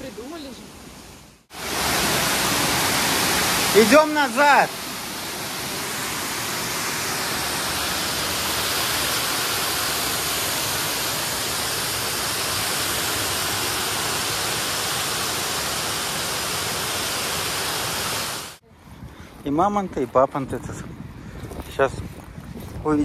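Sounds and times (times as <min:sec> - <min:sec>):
waterfall rushing: 0:00.0 - 0:18.6.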